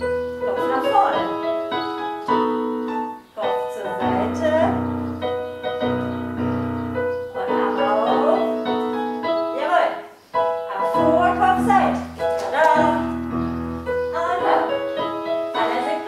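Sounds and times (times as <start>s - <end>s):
piano playing held chords: 0.0s - 16.0s.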